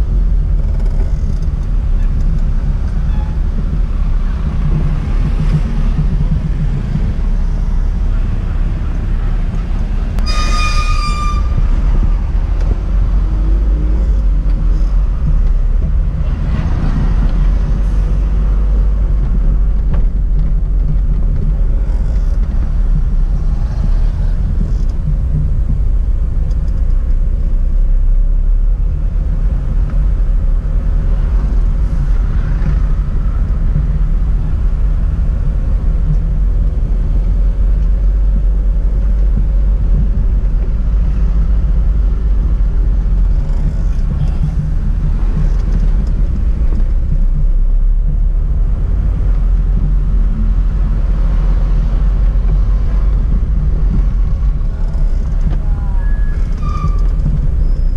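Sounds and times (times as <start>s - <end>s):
car engine low rumble: 0.0s - 57.9s
road noise inside car: 0.0s - 57.9s.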